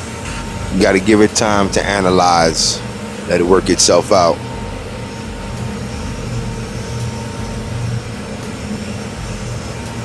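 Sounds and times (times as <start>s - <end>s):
boiler burner humming: 0.0s - 10.0s
burner blower rushing: 0.0s - 10.0s.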